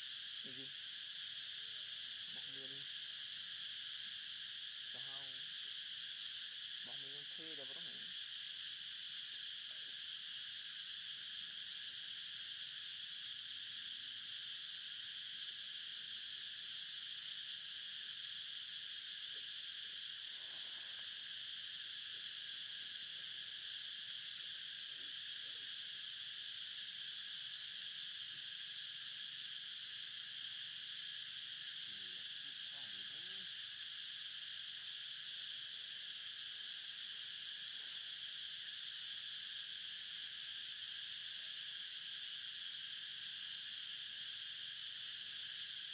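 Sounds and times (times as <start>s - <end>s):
insect chorus buzzing: 0.0s - 45.9s.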